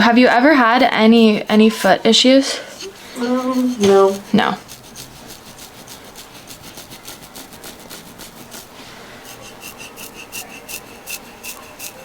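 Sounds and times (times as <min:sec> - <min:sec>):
tool scraping over skin: 0:00.6 - 0:12.0.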